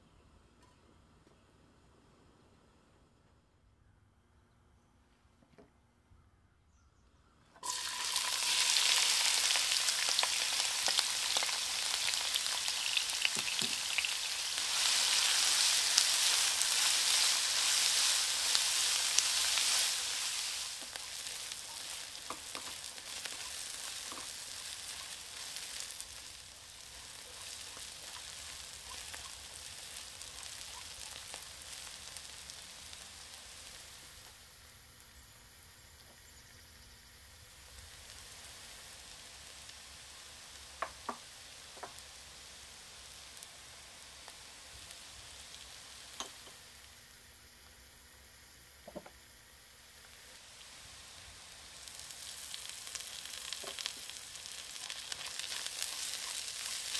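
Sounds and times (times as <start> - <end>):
onion sizzling in hot oil: 7.6 - 56.9.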